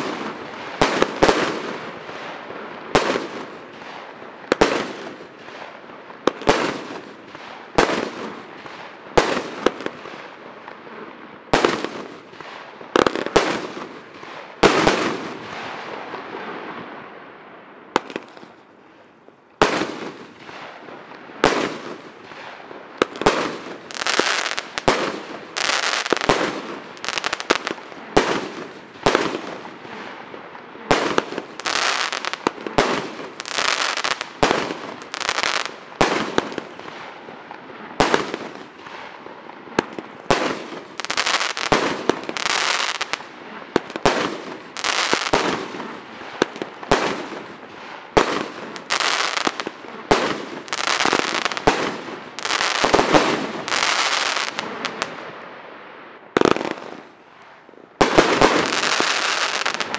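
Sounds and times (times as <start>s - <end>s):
fireworks shooting and bursting: 0.0s - 10.4s, 11.5s - 16.2s, 19.6s - 55.5s, 56.4s - 59.9s.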